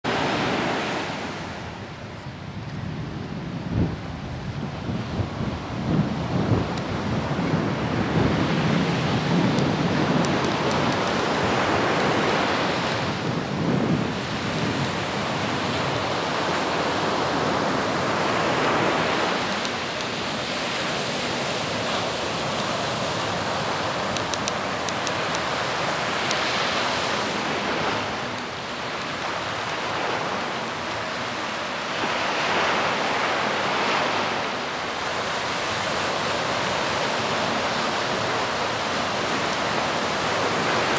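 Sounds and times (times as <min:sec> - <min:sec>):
surf washing onto beach: 0:00.0 - 0:40.9.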